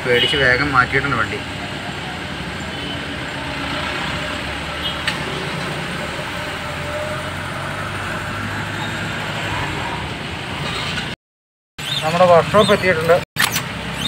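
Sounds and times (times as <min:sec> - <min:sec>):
car engine and road noise: 0:00.0 - 0:11.2, 0:11.8 - 0:14.0.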